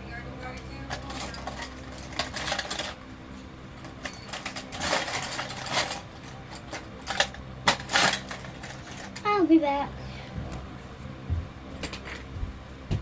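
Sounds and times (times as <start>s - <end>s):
low steady hum: 0.0s - 13.0s
rustling and clatter: 0.8s - 9.3s, 10.4s - 13.0s.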